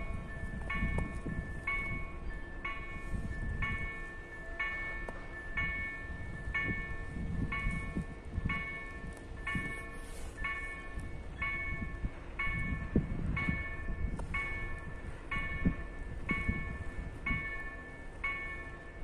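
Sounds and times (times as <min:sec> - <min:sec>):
level crossing warning bells: 0:00.0 - 0:19.0.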